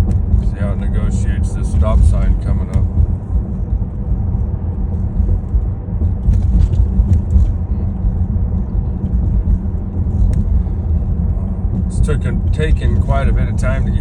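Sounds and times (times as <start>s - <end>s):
tyre and road noise: 0.0s - 14.0s.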